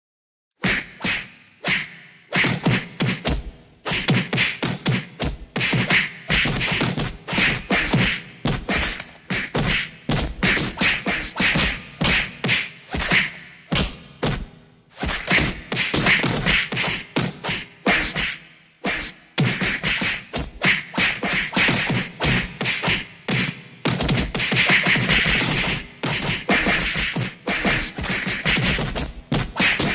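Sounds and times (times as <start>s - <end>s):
punch and body-hit whacks: 0.7s - 29.9s.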